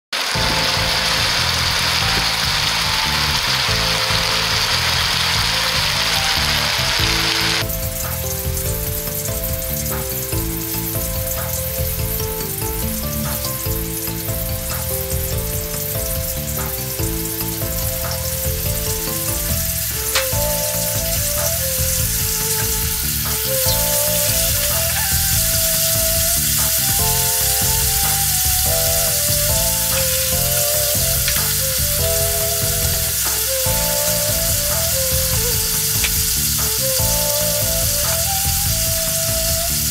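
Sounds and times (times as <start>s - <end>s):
background music melody: 0.0s - 39.9s
tofu sizzling in hot oil: 0.2s - 39.9s.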